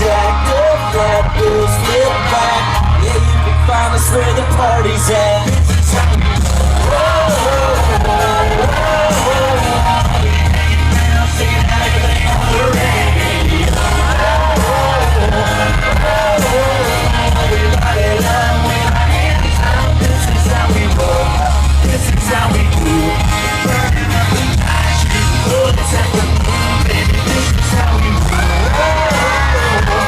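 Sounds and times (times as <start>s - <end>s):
audience yelling: 0.0s - 30.0s
heavy steady bass: 0.0s - 30.0s
live country band playing: 0.0s - 30.0s
people singing: 0.0s - 30.0s.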